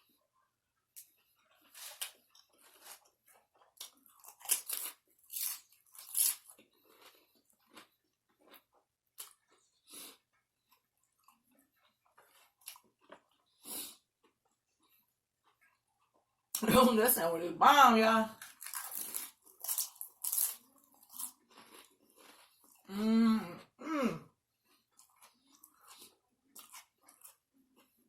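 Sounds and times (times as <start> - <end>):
person chewing crunchy food: 0.9 - 16.6, 18.4 - 22.9, 24.5 - 28.0.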